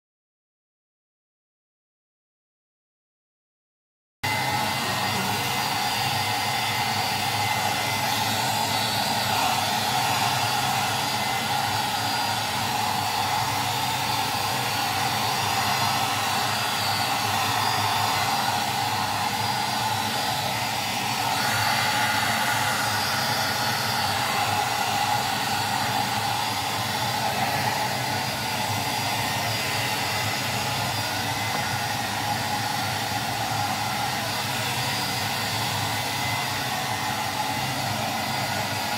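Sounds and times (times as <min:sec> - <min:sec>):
hair dryer blowing: 0:04.2 - 0:38.9.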